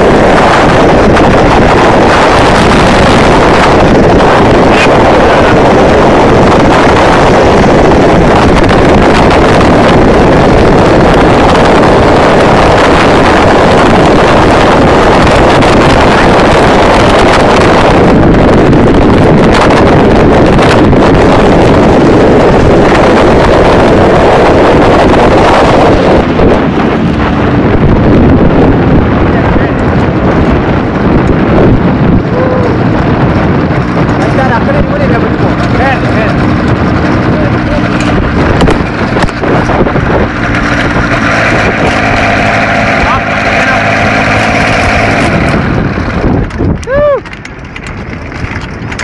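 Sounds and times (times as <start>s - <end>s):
aircraft engine running: 0.0s - 49.0s
wind buffeting microphone: 0.0s - 49.0s.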